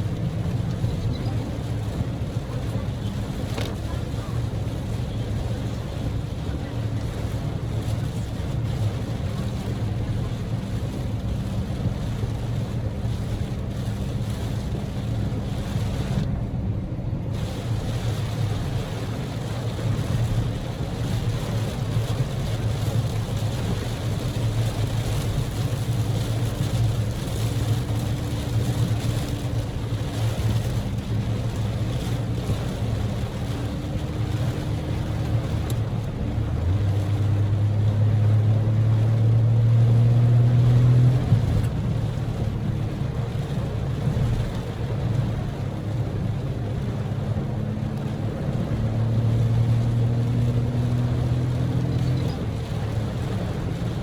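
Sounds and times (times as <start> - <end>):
car engine humming: 0.0 - 16.5, 17.2 - 54.0
road and tyre spray noise: 0.0 - 16.6, 17.2 - 54.0
heavy rain drumming on a car: 0.0 - 54.0.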